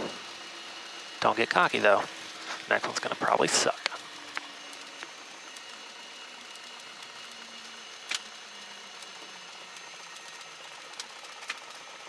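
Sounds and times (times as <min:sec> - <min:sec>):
faint aircraft engine: 0:00.0 - 0:12.0.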